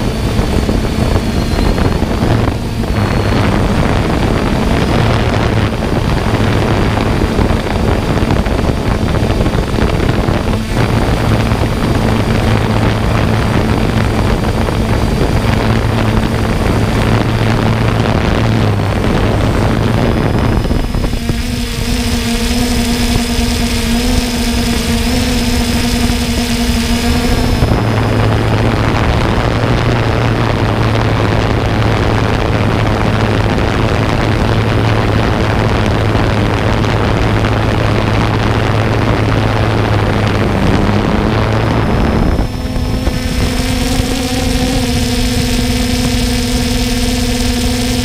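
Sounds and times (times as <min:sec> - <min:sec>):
loud rushing noise: 0:00.0 - 0:47.8
drone propellers whining: 0:00.0 - 0:48.0.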